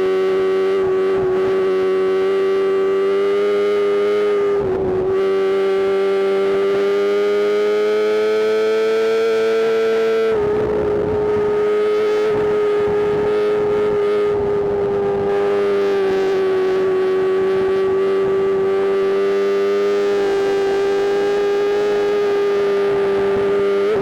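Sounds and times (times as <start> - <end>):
motorcycle engine high-pitched wail: 0.0 - 24.0.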